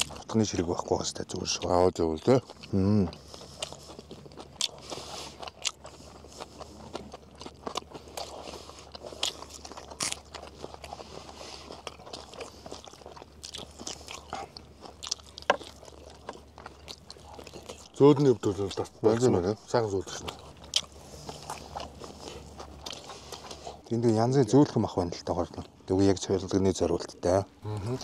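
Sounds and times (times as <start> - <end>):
people chewing meat: 0.0 - 28.0.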